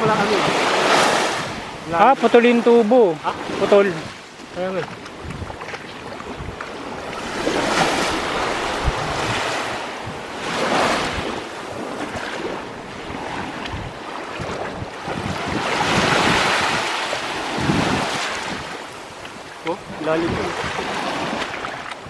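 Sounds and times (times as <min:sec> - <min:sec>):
small waves washing on shore: 0:00.0 - 0:22.0
wind buffeting microphone: 0:00.0 - 0:22.0.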